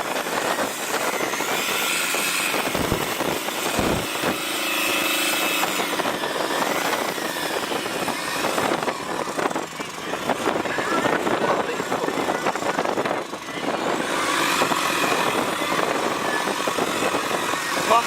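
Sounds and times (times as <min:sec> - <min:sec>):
tractor engine revving: 0:00.0 - 0:18.0.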